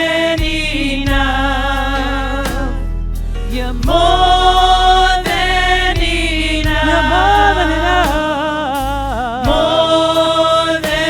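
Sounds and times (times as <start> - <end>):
low musical accompaniment: 0.0 - 11.0
singers with vibrato: 0.0 - 11.0.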